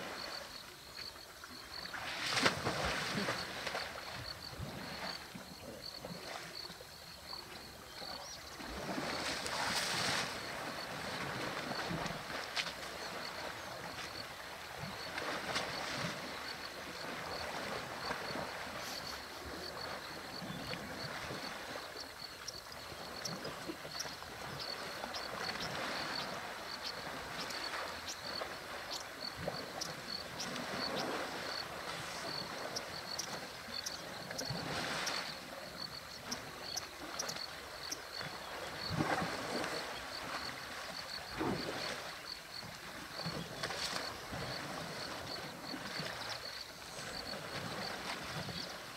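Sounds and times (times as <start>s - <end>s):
water sloshing and splashing: 1.8s - 6.8s, 8.5s - 36.4s, 37.0s - 48.9s.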